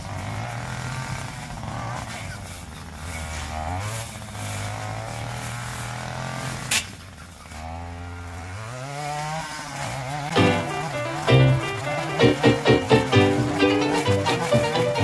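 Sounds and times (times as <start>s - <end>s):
strimmer engine cutting grass: 0.0s - 15.0s.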